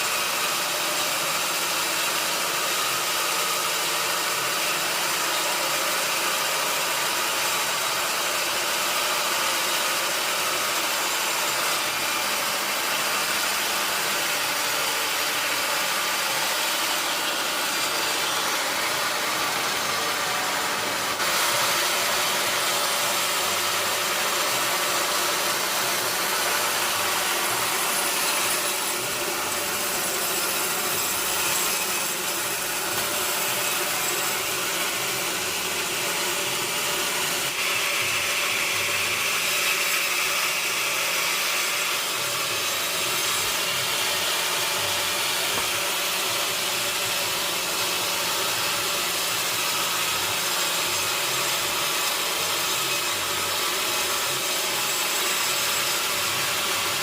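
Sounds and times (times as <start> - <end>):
powered saw cutting log: 0.0 - 57.0.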